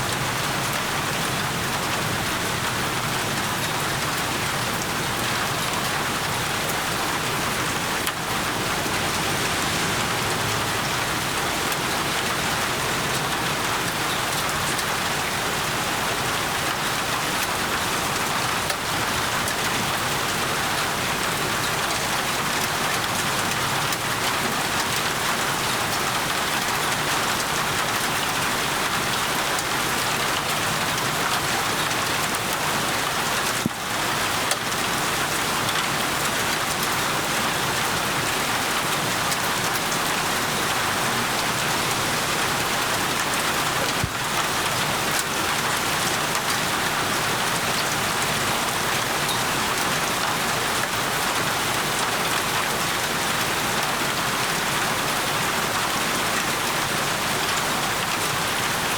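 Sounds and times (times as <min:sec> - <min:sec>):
steady rain patter: 0:00.0 - 0:58.9.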